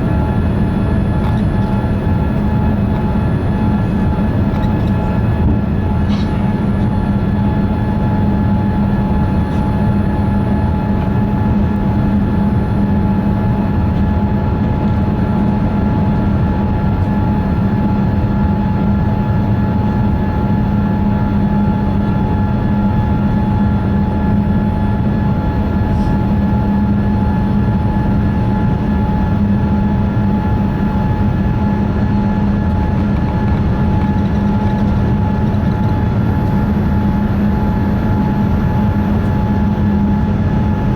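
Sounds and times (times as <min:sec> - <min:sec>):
airliner cabin engine hum: 0:00.0 - 0:40.9.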